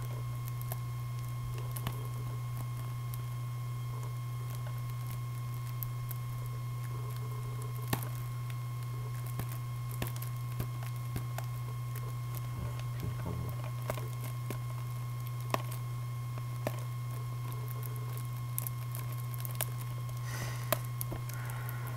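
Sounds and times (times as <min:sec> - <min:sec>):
low electrical hum: 0:00.0 - 0:21.9.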